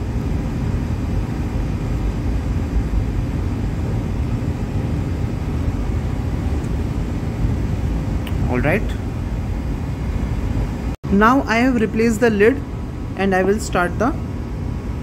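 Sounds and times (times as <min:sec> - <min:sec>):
faint hum: 0:00.0 - 0:15.0
low machinery rumble: 0:00.0 - 0:15.0.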